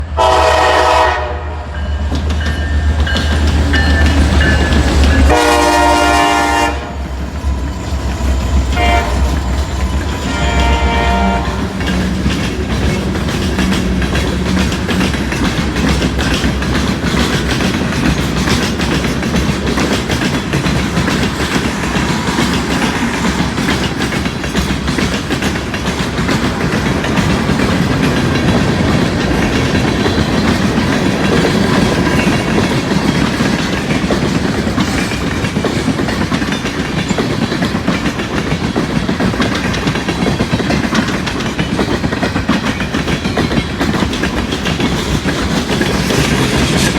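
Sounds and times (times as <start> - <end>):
train wheels clacking over rail joints: 0.2 - 46.9.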